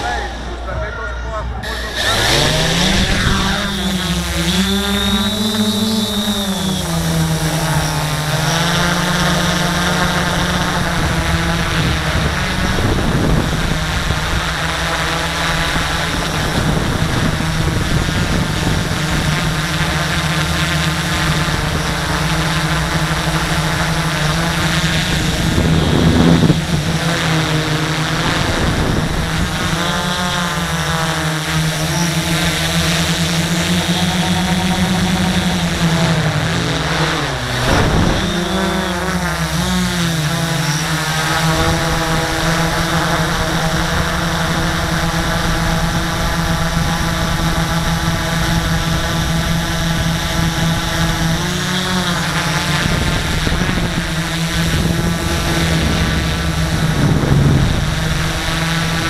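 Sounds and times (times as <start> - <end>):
rush of noise: 0.0 - 51.5, 52.2 - 59.0
quadcopter propellers buzzing: 0.0 - 59.0.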